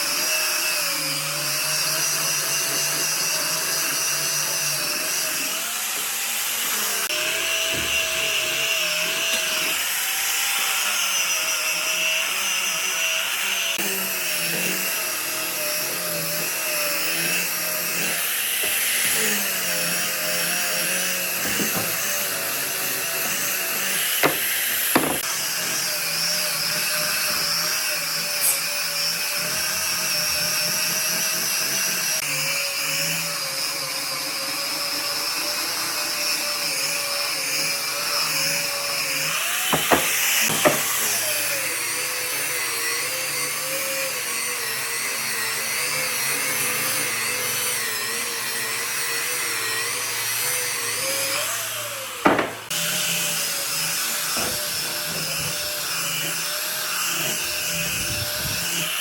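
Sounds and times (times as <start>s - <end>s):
electric power tool running: 0.0s - 59.0s.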